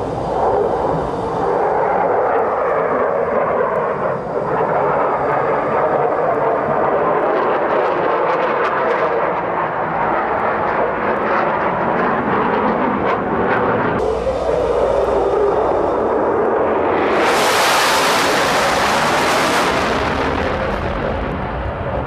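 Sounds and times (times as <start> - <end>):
fighter jets flying overhead: 0.0 - 22.0.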